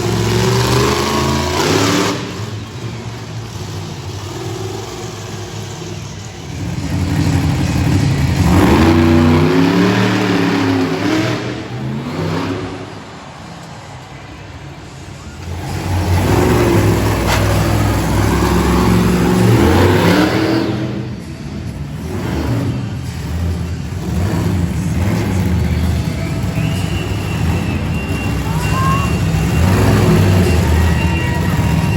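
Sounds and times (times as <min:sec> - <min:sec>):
monster truck engine revving: 0:00.0 - 0:14.0, 0:14.7 - 0:31.9.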